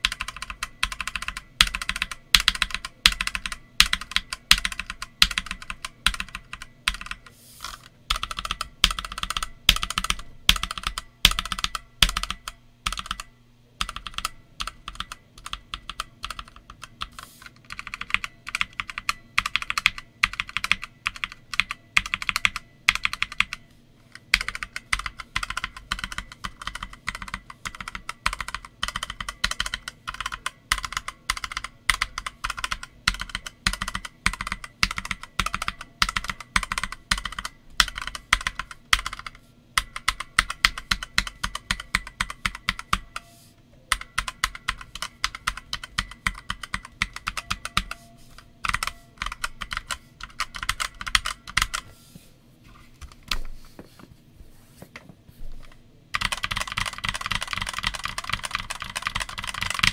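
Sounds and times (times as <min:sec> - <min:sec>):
typing on mechanical keyboard: 0:00.0 - 0:51.9, 0:56.1 - 0:59.9.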